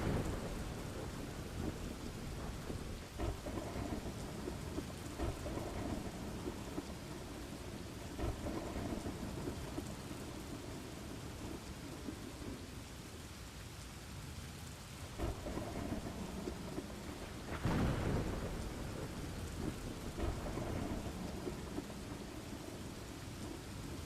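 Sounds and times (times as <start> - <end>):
rumbling thunder: 0.0 - 12.6, 15.2 - 24.0
steady rain: 0.0 - 24.0.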